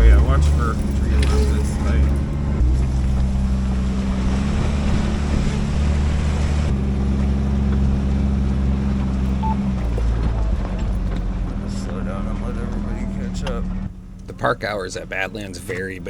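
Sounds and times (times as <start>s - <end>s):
off-road vehicle engine droning: 0.0s - 16.0s.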